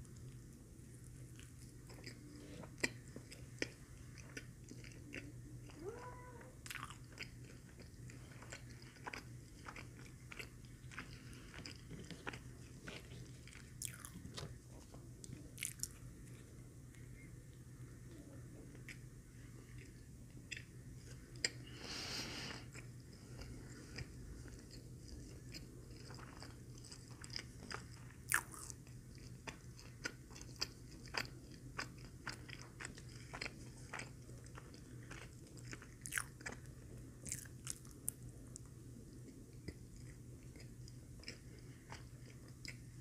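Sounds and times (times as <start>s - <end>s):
steady low hum: 0.0s - 43.0s
wet chewing and smacking: 1.3s - 5.8s, 6.6s - 16.5s, 22.7s - 43.0s.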